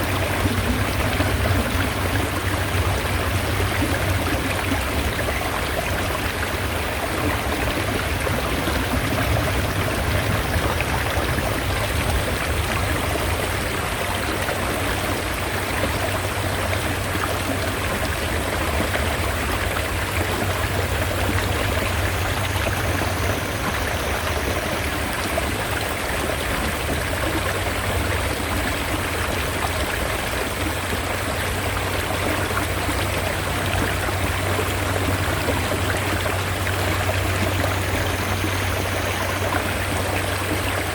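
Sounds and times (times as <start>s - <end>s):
stream flowing water: 0.0s - 40.9s.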